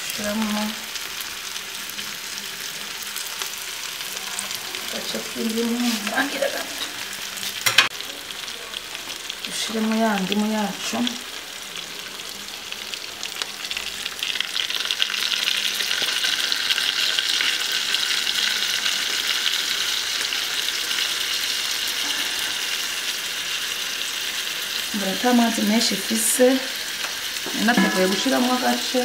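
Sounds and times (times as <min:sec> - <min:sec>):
meat and onions sizzling: 0:00.0 - 0:29.0.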